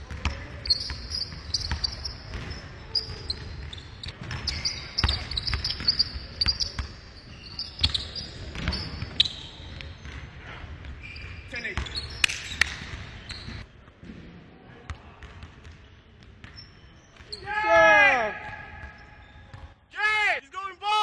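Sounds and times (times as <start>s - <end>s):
sneaker squeaks: 0.1s - 13.8s, 15.7s - 19.8s.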